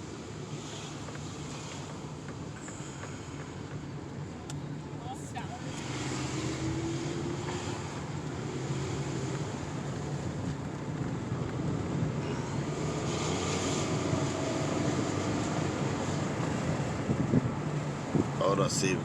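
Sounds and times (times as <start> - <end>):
car engine accelerating: 0.0 - 19.0
road noise: 0.0 - 19.0.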